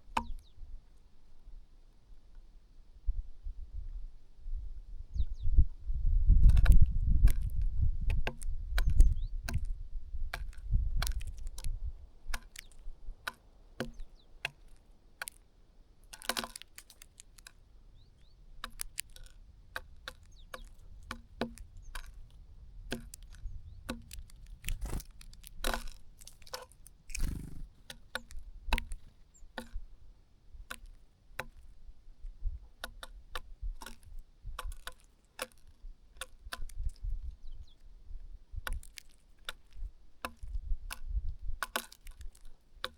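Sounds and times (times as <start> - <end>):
birds pecking and tapping: 0.0 - 1.1, 6.4 - 42.9.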